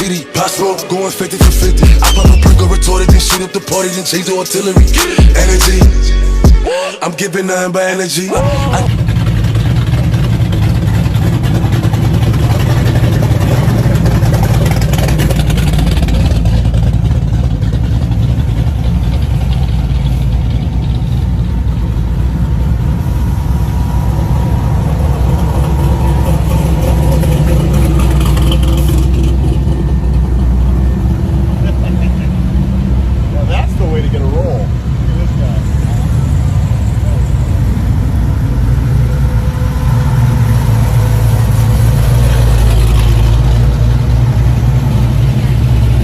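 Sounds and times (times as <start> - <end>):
car engine deep rumble revving: 1.4 - 3.4, 4.8 - 6.5, 8.4 - 46.0.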